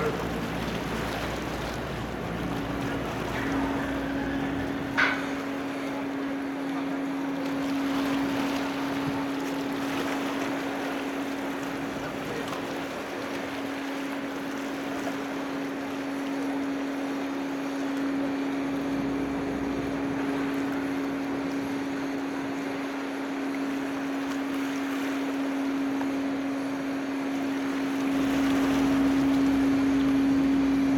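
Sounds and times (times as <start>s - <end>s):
engine and wind noise: 0.0s - 30.9s
steady machinery hum: 0.0s - 30.9s.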